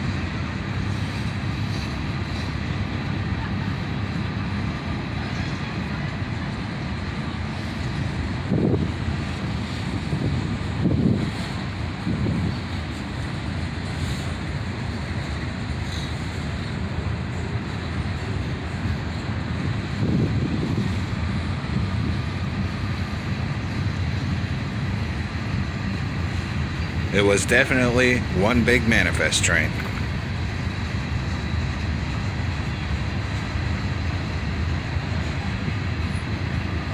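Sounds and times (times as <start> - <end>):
freight train rolling past: 0.0 - 36.9.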